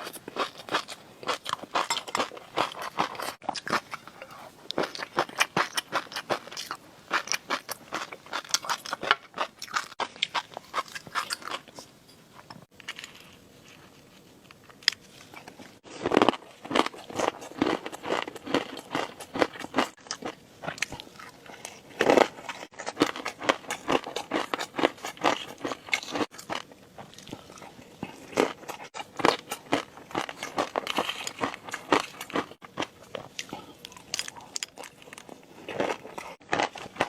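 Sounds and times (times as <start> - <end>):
crunching and chewing food: 0.0 - 37.0.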